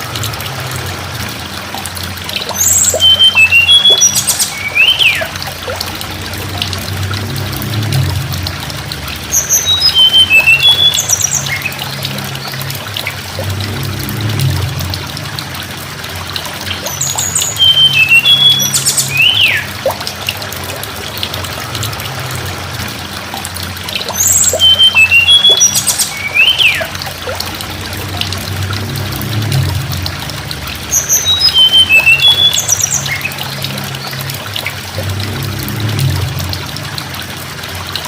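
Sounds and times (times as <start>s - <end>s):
running water: 0.0s - 38.0s.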